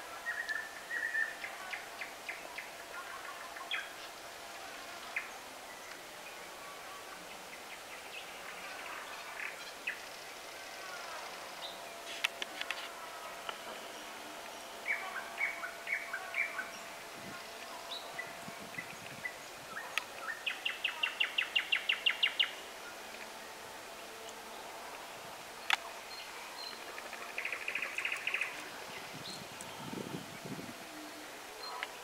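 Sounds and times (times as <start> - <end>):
songbirds chirping and trilling: 0.0 - 32.0.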